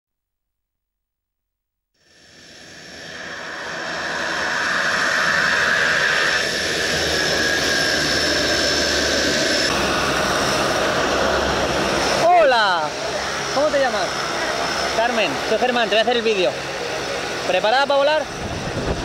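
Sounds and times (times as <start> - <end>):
turboprop plane taxiing: 2.0 - 19.0.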